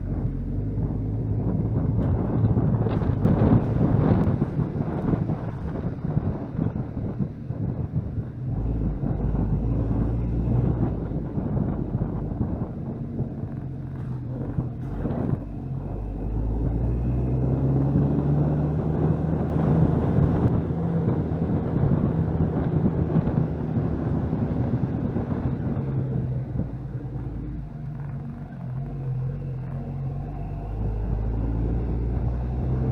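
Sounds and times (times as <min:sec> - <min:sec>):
car engine drone: 0:00.0 - 0:32.9
tyre and road rumble: 0:00.0 - 0:32.9.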